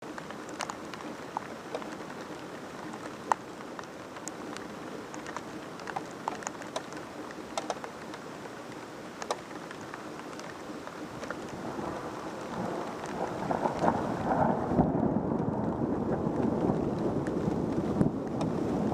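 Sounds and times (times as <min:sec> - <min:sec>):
raindrops ticking on surface: 0:00.0 - 0:18.9
steady rain: 0:00.0 - 0:18.9.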